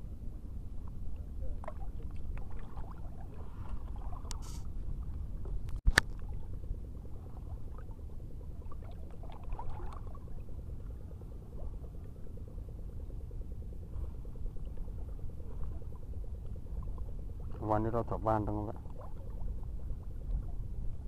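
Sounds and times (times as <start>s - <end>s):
wind rumbling on microphone: 0.0s - 21.0s
water lapping against boat hull: 0.5s - 21.0s.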